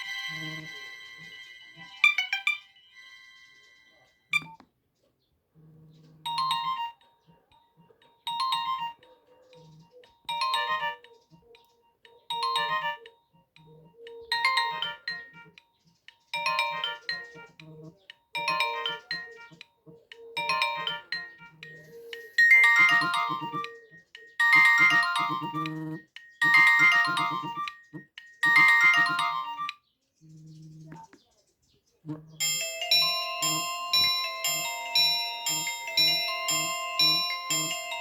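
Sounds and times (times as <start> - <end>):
electronic ringtone melody: 0.0 - 1.4, 6.3 - 29.8, 32.4 - 38.0.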